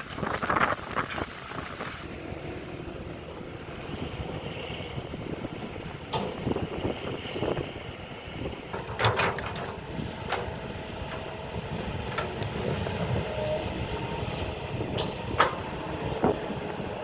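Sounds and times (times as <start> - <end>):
wind on microphone: 0.0 - 17.0
excavator engine running: 2.0 - 17.0.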